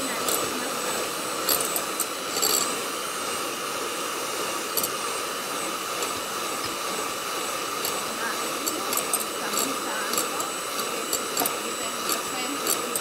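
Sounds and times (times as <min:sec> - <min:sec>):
electric mixer motor whir: 0:00.0 - 0:13.0.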